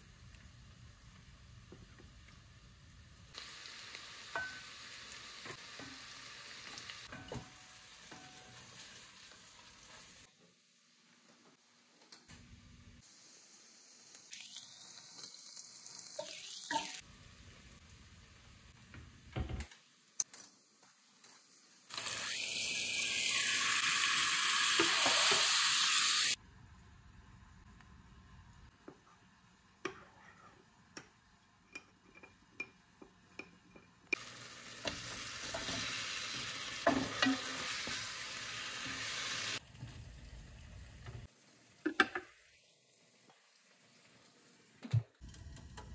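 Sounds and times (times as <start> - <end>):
hissing sizzle-like noise: 0.0 - 31.5, 34.0 - 45.9.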